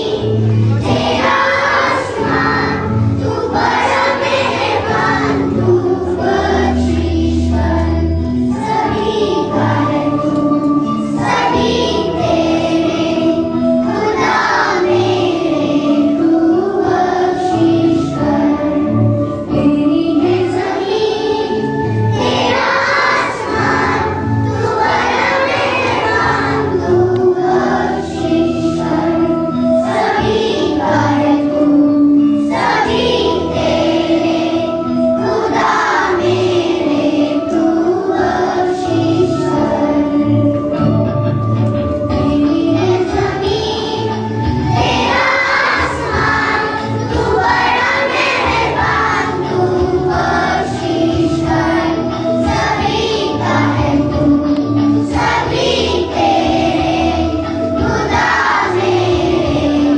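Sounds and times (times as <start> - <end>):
girls choir singing: 0.0 - 59.9.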